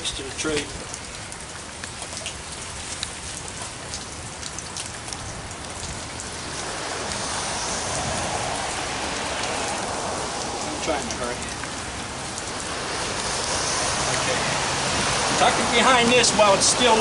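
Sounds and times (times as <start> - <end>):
raindrops ticking on surfaces: 0.0 - 17.0
steady rain hiss: 0.0 - 17.0.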